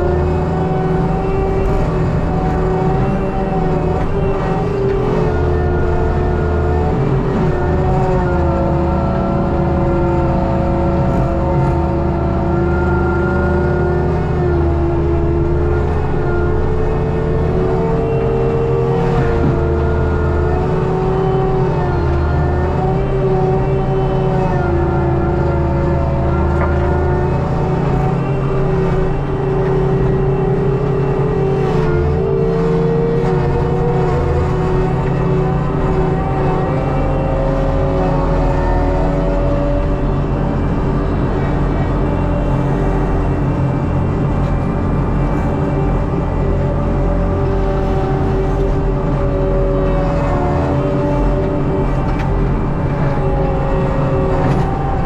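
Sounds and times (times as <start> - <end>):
loader engine and hydraulic drone: 0.0 - 55.0
mulcher whine: 0.0 - 55.0.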